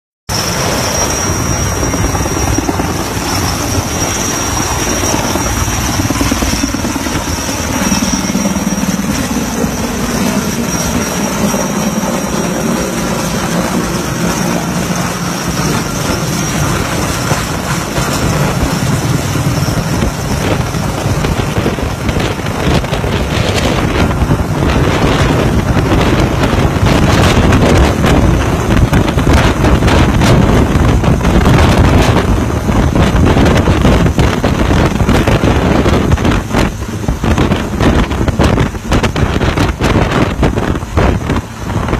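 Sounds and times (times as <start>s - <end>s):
helicopter rotor and engine: 0.3s - 41.9s
high whine: 0.3s - 41.9s.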